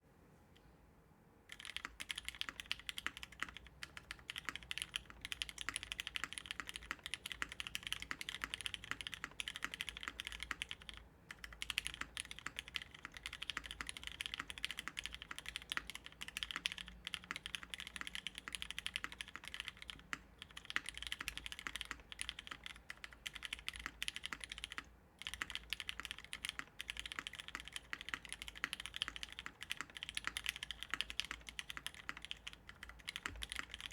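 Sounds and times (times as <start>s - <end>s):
fast typing on mechanical keyboard: 1.5s - 33.9s.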